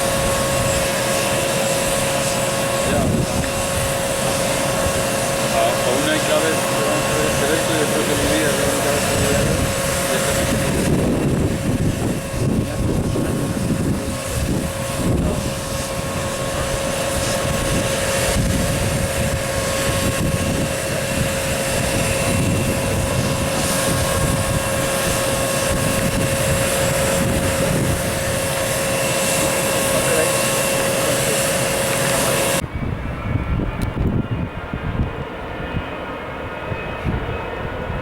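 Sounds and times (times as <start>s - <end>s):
jet engines whining: 0.0s - 38.0s.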